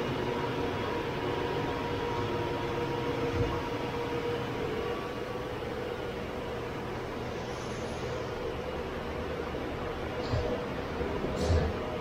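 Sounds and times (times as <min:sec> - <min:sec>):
machine hum and fan noise: 0:00.0 - 0:12.0.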